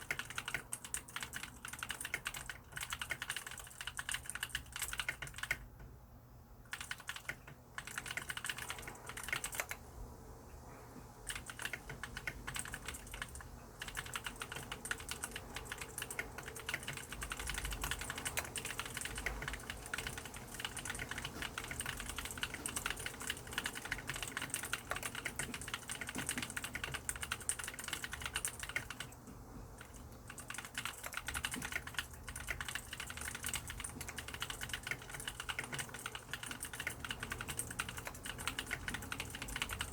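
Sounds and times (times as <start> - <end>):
mechanical keyboard typing: 0.0 - 5.9, 6.6 - 9.8, 11.2 - 39.9.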